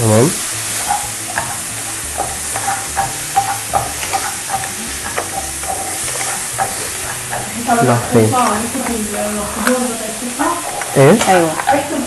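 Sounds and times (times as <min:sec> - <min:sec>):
vegetables sizzling in a frying pan: 0:00.0 - 0:12.0
wooden spatula scraping a pan: 0:00.4 - 0:12.0.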